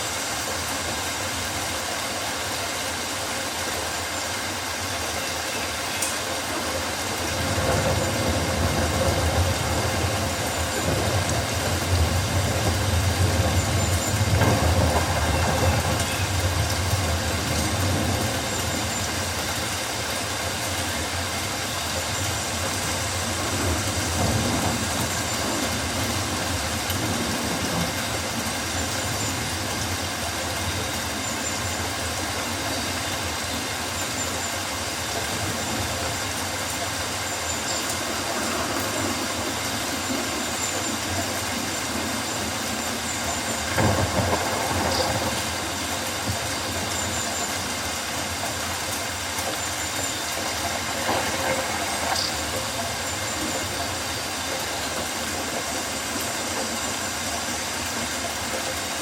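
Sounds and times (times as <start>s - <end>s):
rain-like noise: 0.0s - 59.0s.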